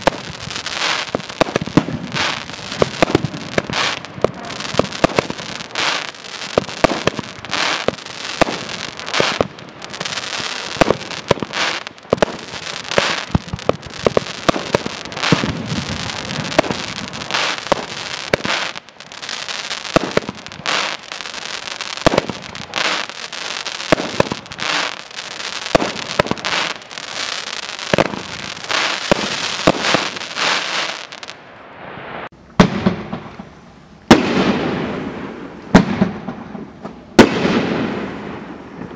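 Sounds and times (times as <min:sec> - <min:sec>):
firework bangs: 0:00.0 - 0:31.4, 0:32.2 - 0:38.9
fireworks launching and bursting: 0:00.0 - 0:38.9.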